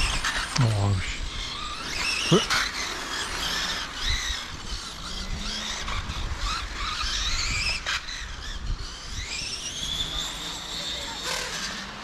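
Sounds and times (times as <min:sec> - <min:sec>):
rc car electric motors whining: 0:00.0 - 0:12.0.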